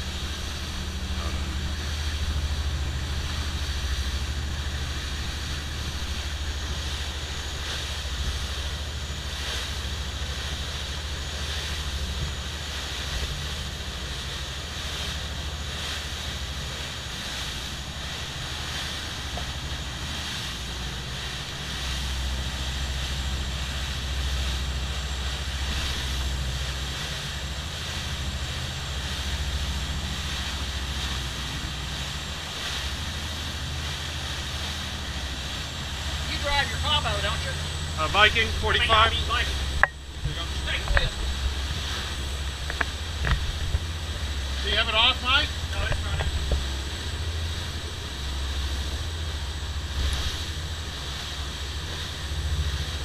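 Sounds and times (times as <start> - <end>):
boat engines droning: 0.0 - 53.0
rushing water: 0.0 - 53.0
wind hiss: 0.0 - 53.0.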